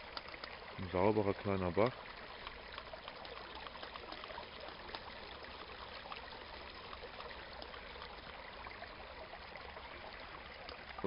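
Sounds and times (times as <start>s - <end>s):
brook trickling over stones: 0.0s - 11.0s
small water splashes: 0.0s - 11.0s.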